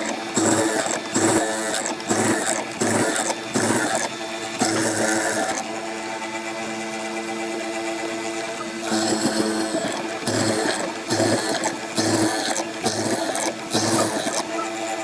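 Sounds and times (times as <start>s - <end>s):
power tool whining bursts: 0.0s - 15.0s.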